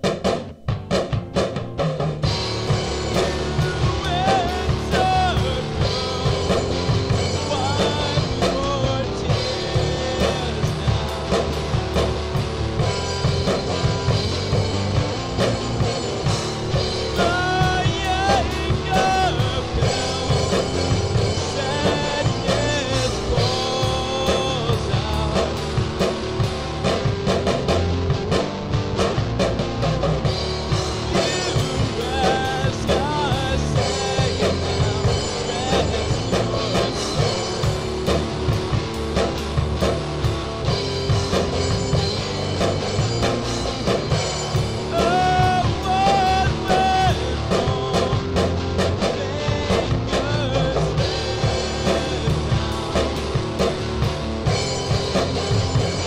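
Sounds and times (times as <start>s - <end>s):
bass guitar: 0.0s - 56.0s
drum kit: 0.0s - 56.0s
rock band playing: 0.0s - 56.0s.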